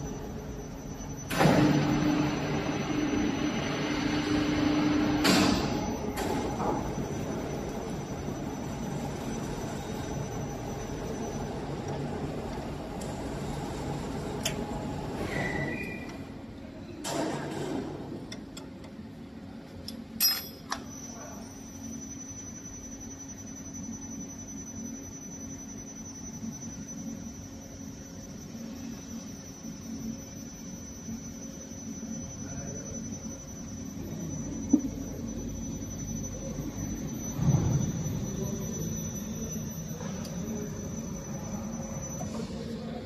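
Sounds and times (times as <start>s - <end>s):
machine hum with high whine: 0.0s - 43.0s.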